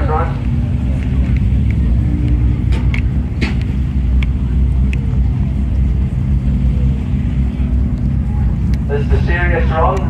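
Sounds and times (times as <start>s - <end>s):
rally car engine droning: 0.0s - 10.0s.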